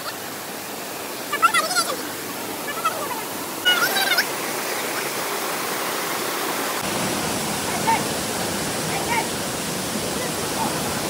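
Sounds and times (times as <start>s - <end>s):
waterfall rushing over rock: 0.0s - 11.0s.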